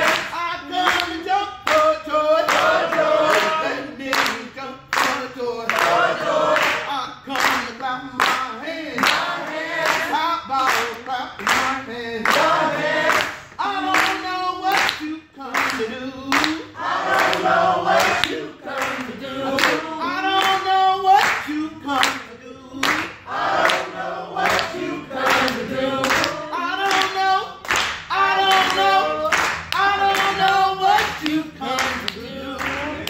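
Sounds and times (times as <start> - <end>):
gospel song singing: 0.0 - 33.0
hands clapping: 0.0 - 33.0.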